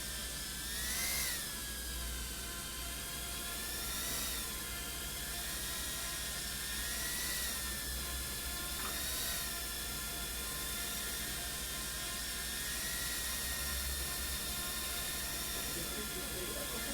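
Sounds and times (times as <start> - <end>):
drone motors whining: 0.0 - 16.9.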